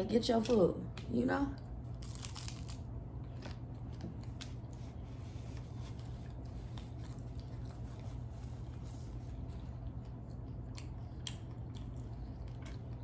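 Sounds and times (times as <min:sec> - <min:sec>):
steady low hum: 0:00.0 - 0:13.0
crunchy taco chewing: 0:01.9 - 0:13.0.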